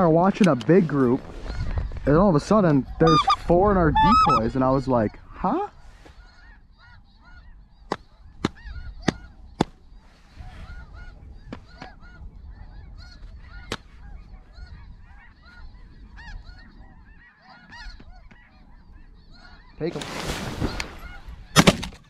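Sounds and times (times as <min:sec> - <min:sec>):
geese honking: 0:02.4 - 0:21.6.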